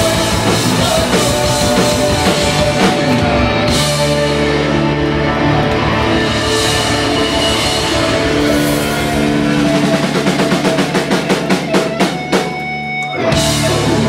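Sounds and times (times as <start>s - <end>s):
electric guitars and bass chord: 0.0s - 14.0s.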